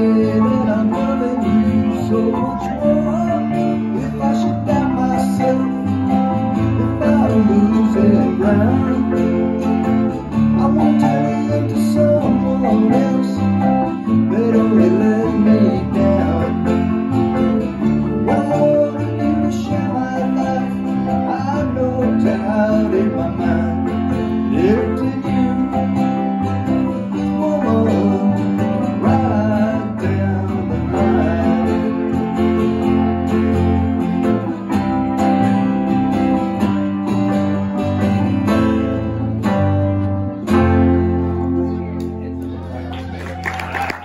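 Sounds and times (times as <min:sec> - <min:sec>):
low bass line: 0:00.0 - 0:43.0
mandolin: 0:00.0 - 0:43.2
acoustic guitar: 0:00.0 - 0:44.0
keyboard: 0:00.0 - 0:44.0.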